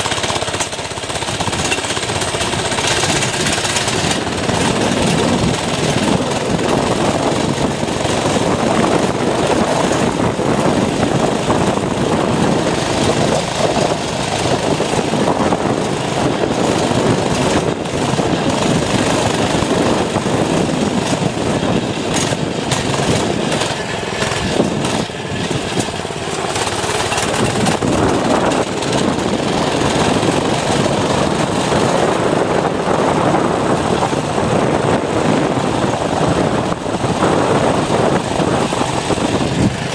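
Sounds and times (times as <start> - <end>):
small motorbike engine running: 0.0 - 39.9
wind rushing over microphone: 0.0 - 39.9.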